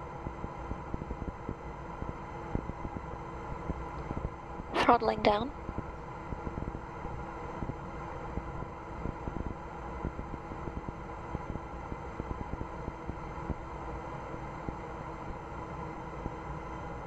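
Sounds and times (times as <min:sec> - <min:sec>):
faint steady hum tones: 0:00.0 - 0:17.0.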